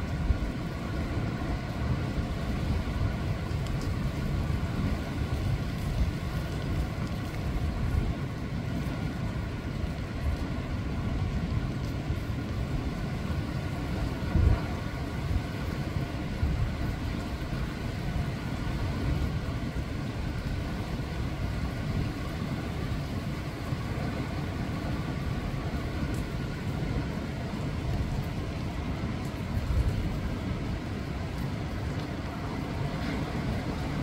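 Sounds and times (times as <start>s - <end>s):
surf breaking over rocks: 0.0s - 34.0s.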